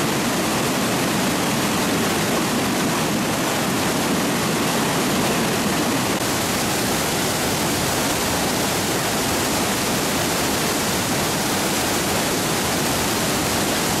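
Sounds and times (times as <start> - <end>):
floodwater rushing over rapids: 0.0 - 14.0.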